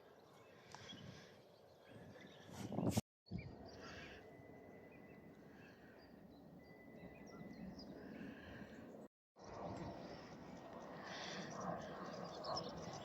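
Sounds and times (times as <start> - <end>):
distant small birds chirping: 0.0 - 13.0.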